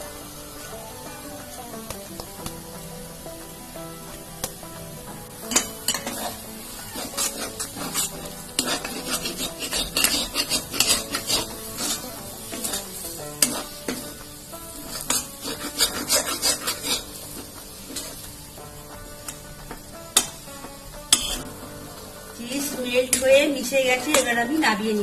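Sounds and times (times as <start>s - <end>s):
low sizzle: 0.0s - 25.0s
metal spatula scraping a pan: 3.8s - 24.8s.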